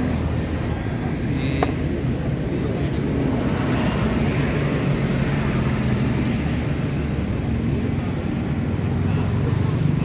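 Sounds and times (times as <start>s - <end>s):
street traffic engine hum: 0.0s - 10.0s.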